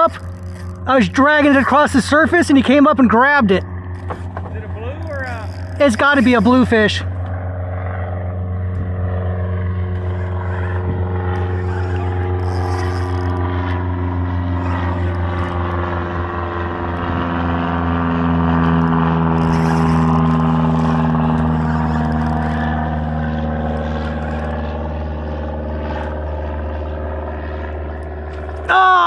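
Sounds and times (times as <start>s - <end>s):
engine humming steadily: 0.0s - 29.0s.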